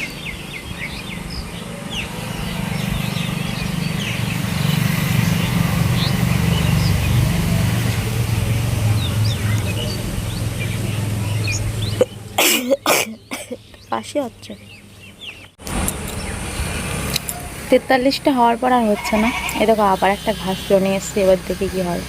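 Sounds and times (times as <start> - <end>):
engine humming: 0.0 - 22.0
small birds chirping: 0.0 - 22.0.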